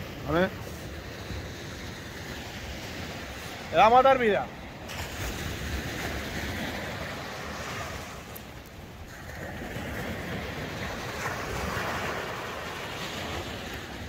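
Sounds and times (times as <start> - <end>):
surf breaking on beach: 0.0 - 14.0.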